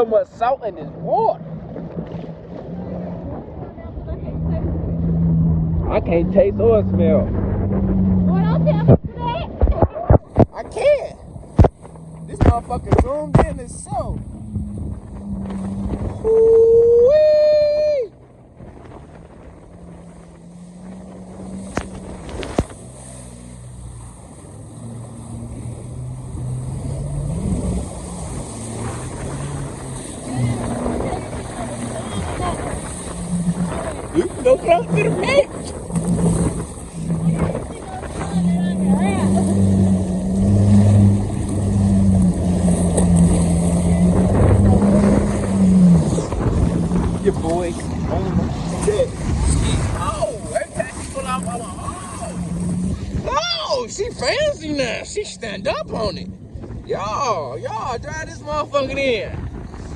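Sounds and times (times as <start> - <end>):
jet ski engine running: 0.0 - 59.9
wind and water noise: 0.0 - 59.9.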